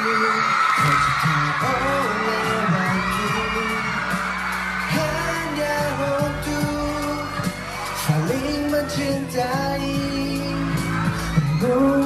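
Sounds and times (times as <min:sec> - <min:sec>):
pop song with sung vocals: 0:00.0 - 0:12.0
steady bass line: 0:01.2 - 0:12.0.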